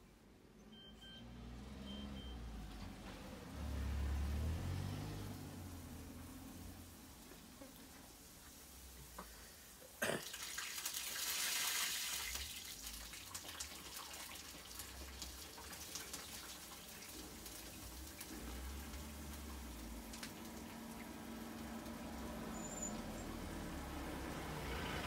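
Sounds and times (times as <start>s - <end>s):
batter sizzling and crackling in oil: 3.8s - 25.0s.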